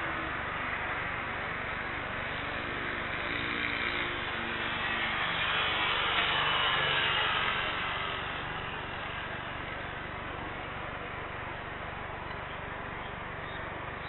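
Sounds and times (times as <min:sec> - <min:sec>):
distant jet engines spooling up: 0:00.0 - 0:14.0.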